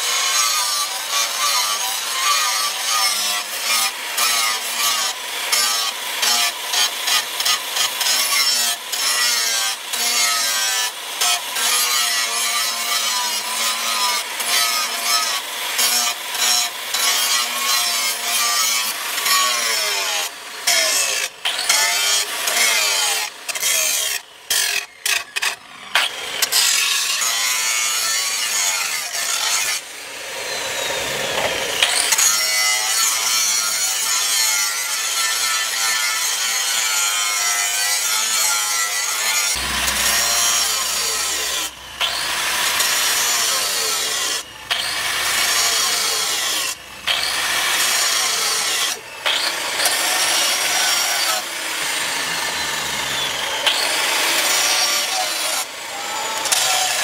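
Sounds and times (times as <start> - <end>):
angle grinder grinding steel: 0.0 - 57.0.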